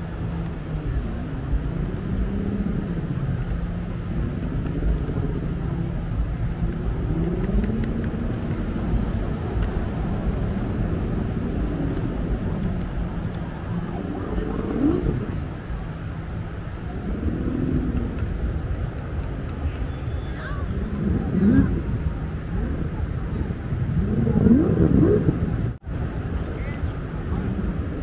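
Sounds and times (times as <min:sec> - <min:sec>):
passing vehicle engines: 0:00.0 - 0:28.0
steady low hum: 0:00.0 - 0:28.0.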